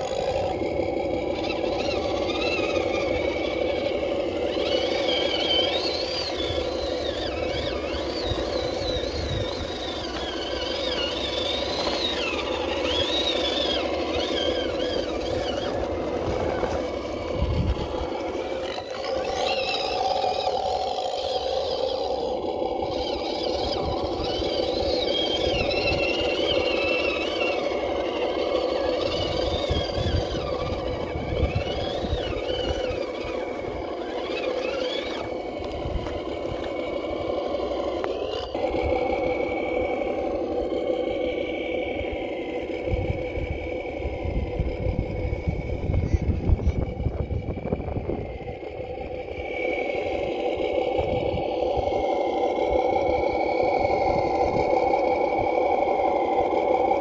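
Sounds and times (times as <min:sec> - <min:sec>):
toy truck motor whining: 0:00.0 - 0:57.0
wind gusting on microphone: 0:00.0 - 0:57.0.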